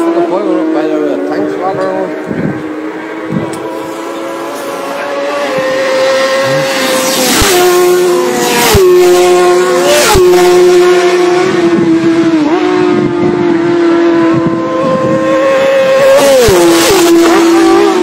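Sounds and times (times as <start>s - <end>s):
high-revving engine: 0.0s - 18.0s
racing motorcycles passing: 0.0s - 18.0s.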